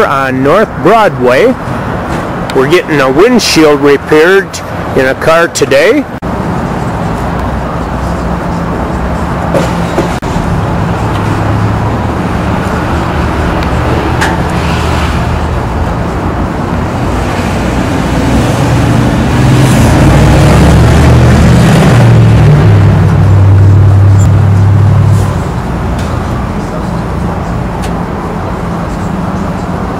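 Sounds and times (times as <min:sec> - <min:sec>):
car engine and road noise: 0:00.0 - 0:29.9.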